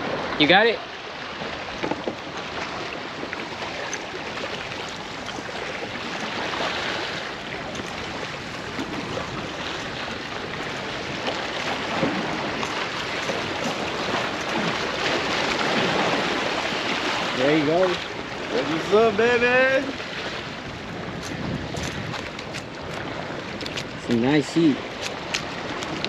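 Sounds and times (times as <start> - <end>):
waves splashing against rocks: 0.0 - 26.0.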